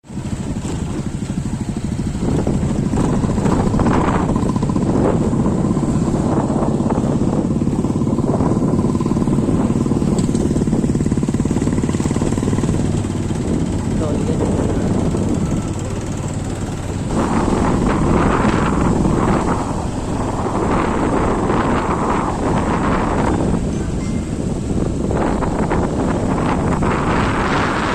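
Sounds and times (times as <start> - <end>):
vehicle engine running: 0.0 - 27.9.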